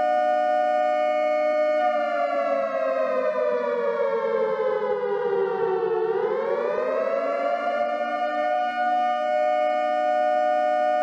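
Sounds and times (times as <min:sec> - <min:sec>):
tornado warning siren wailing: 0:00.0 - 0:11.0.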